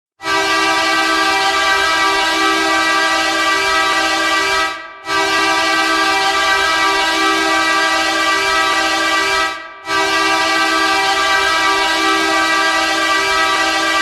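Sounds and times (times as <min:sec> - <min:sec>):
hockey goal horn: 0:00.2 - 0:14.0.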